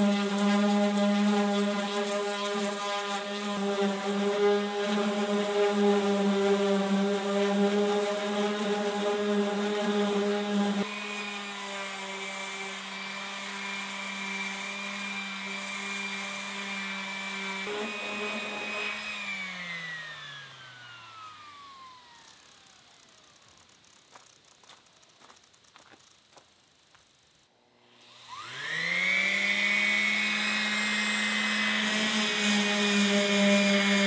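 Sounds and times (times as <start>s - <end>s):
power tool motor running: 0.0s - 34.0s.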